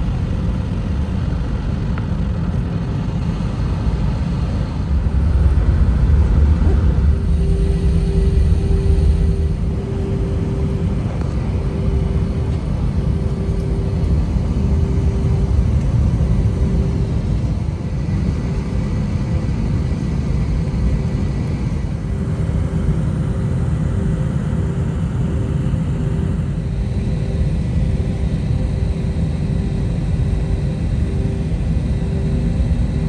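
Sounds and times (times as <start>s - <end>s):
jet airliner taxiing rumble: 0.0s - 33.0s
mid-pitched hum: 0.0s - 33.0s.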